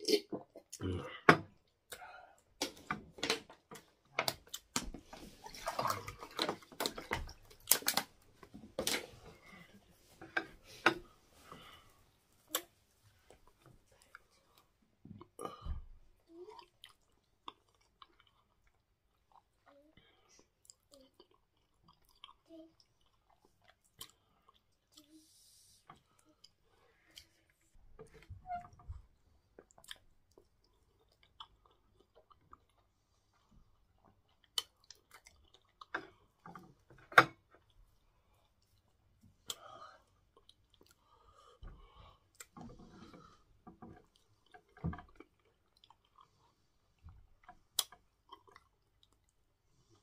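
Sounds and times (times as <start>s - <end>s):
person chewing wet food: 3.8s - 15.6s, 16.2s - 28.3s, 29.4s - 50.0s.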